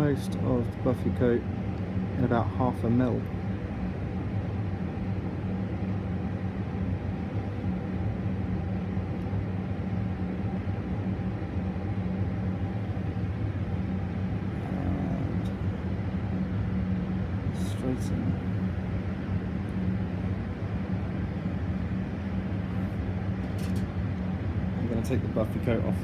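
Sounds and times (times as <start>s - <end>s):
blower fan humming: 0.0s - 26.0s.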